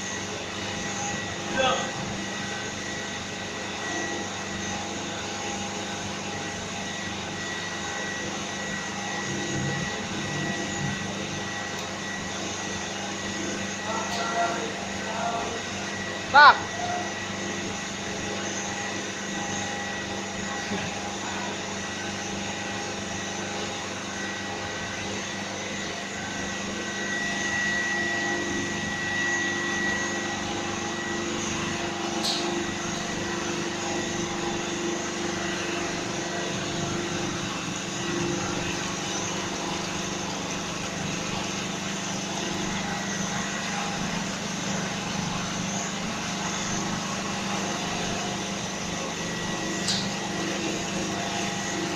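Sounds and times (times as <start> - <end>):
high machine whine: 0.0 - 51.9
machine humming: 0.0 - 51.9.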